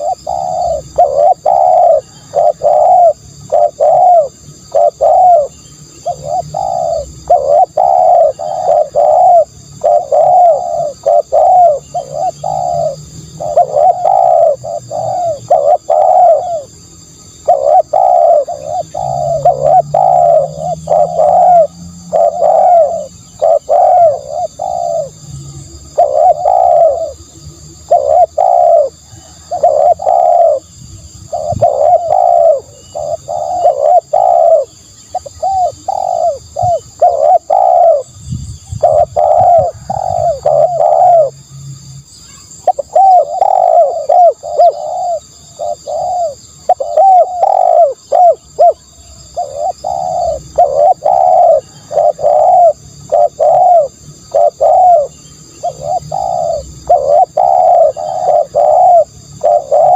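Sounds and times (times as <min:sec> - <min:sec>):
doves cooing: 0:00.0 - 0:41.6, 0:42.4 - 0:59.9
faint high-pitched whine: 0:00.0 - 0:59.9.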